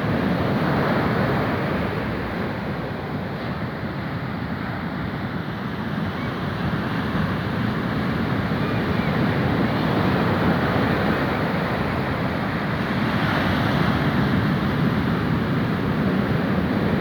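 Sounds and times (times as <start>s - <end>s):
sea waves and surf: 0.0s - 17.0s.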